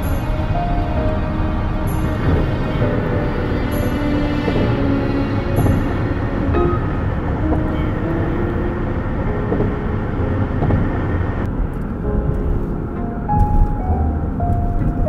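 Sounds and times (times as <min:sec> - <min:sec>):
slow background music: 0:00.0 - 0:15.0
steady low rumble: 0:00.0 - 0:15.0.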